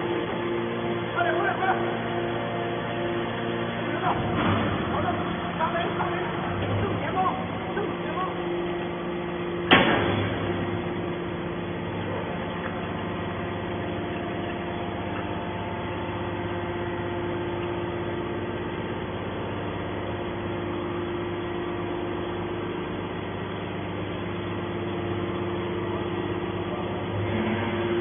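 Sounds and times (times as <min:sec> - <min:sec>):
hydraulic pump machine hum: 0:00.0 - 0:28.0
low machine tone: 0:00.0 - 0:28.0.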